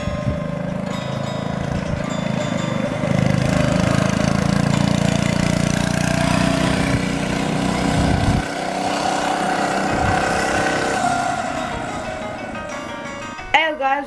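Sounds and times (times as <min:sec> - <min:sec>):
small engine running: 0:00.0 - 0:13.5.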